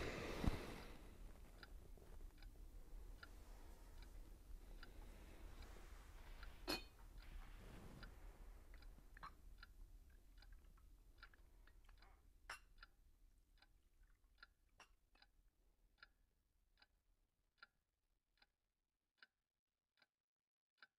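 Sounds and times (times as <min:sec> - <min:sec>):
clock ticking: 0:00.0 - 0:17.8.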